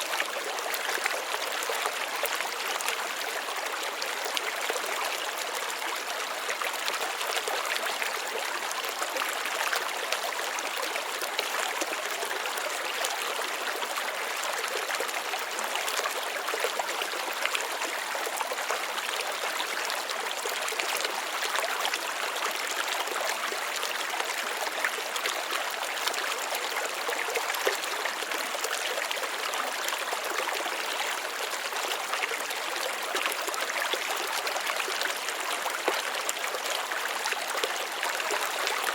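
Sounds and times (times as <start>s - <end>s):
water trickling and splashing: 0.0s - 38.9s.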